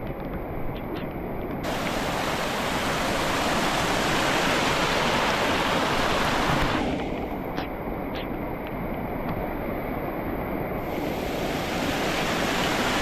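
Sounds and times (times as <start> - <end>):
rushing mountain stream: 1.6 - 13.0.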